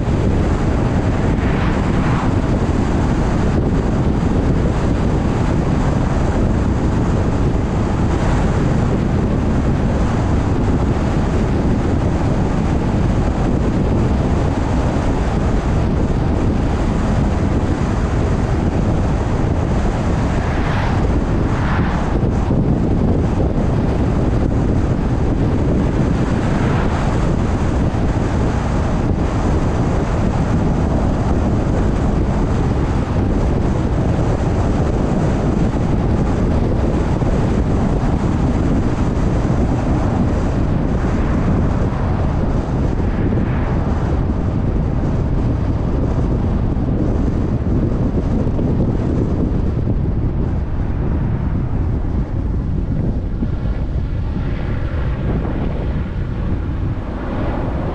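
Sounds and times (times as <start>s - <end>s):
car road noise at speed: 0.0s - 57.9s
wind rushing past car: 0.0s - 57.9s.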